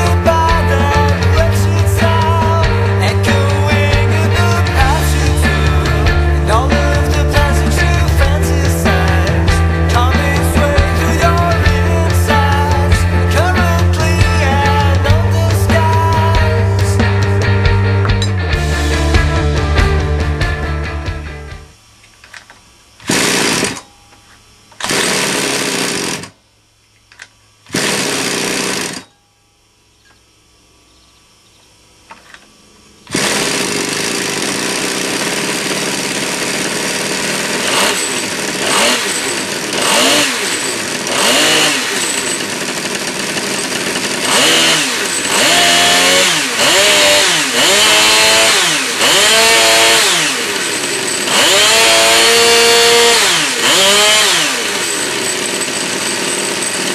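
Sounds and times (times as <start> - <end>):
model engine revving: 0.0 - 21.7, 23.0 - 23.8, 24.8 - 26.4, 27.7 - 29.0, 32.9 - 56.9.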